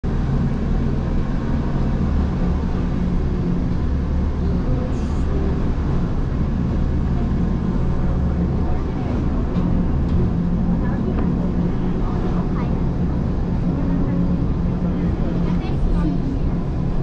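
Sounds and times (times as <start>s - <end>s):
electric train rumble and hum: 0.0s - 17.0s.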